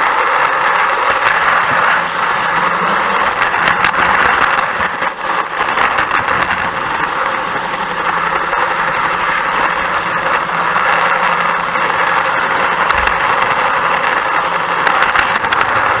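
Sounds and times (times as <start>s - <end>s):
constant low hum: 0.5s - 16.0s
train rushing noise: 0.8s - 16.0s.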